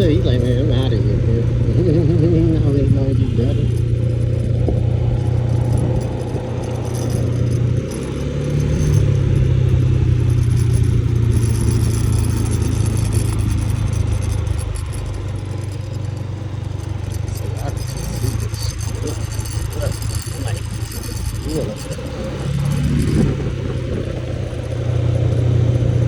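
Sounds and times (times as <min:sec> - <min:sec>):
light rattling: 0:00.0 - 0:26.0
motorbike engine running: 0:00.0 - 0:26.0.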